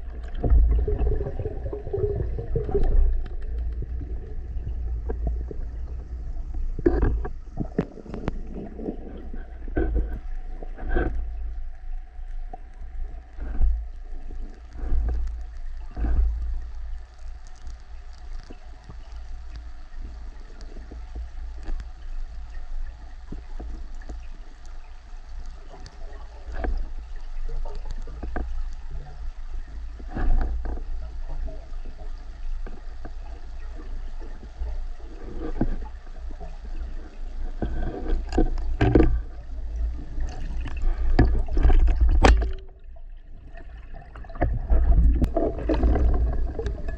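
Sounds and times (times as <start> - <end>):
muffled underwater rumble: 0.0 - 46.9
underwater clicks and knocks: 0.0 - 46.9.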